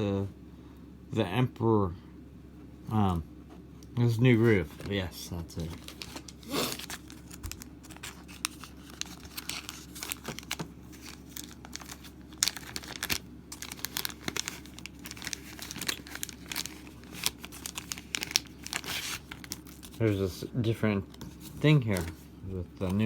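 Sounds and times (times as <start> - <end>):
plastic and cardboard crinkling: 4.3 - 23.0.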